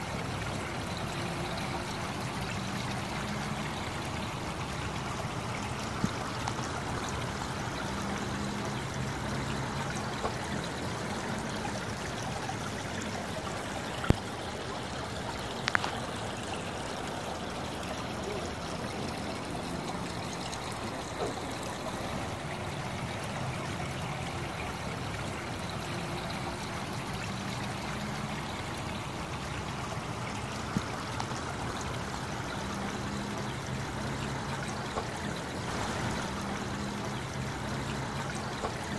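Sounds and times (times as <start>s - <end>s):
water trickling over rocks: 0.0s - 38.9s.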